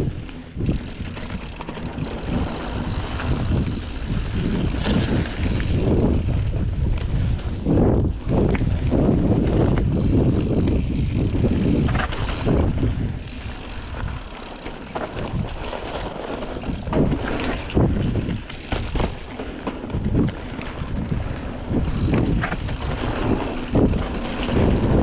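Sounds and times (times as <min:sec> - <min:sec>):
wind buffeting microphone: 0:00.0 - 0:19.3, 0:19.9 - 0:25.0
bike clattering over bumps: 0:00.1 - 0:25.0
tyres rumbling on dirt: 0:00.1 - 0:25.0.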